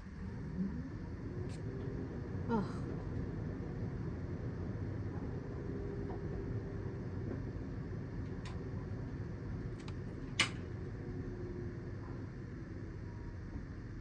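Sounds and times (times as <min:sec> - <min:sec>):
ventilation fan hum: 0:00.0 - 0:14.0.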